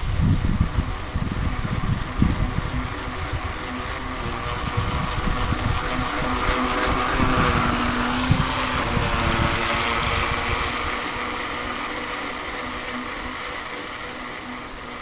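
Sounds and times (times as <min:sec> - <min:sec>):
toy boat electric motor whine: 0:00.0 - 0:15.0
hull cutting through water: 0:00.6 - 0:15.0.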